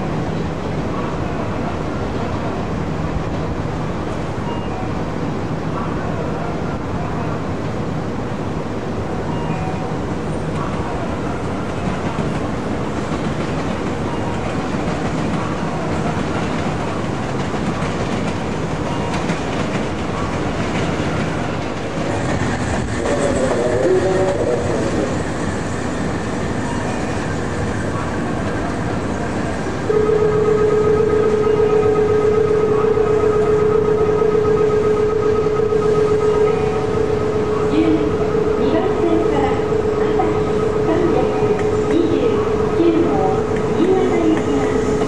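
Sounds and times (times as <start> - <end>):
electric locomotive rumbling: 0.0 - 45.0.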